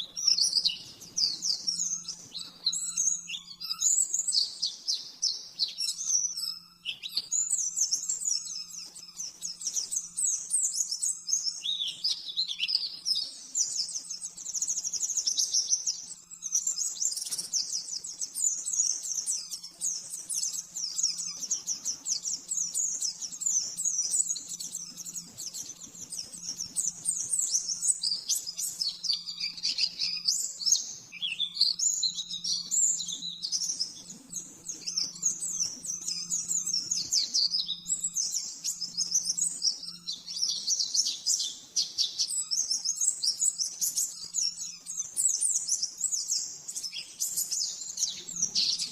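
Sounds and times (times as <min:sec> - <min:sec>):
bird chattering song: 0:00.0 - 0:48.9.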